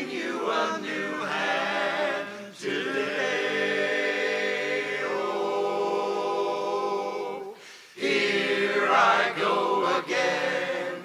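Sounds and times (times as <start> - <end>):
men singing a cappella in harmony: 0.0 - 11.0.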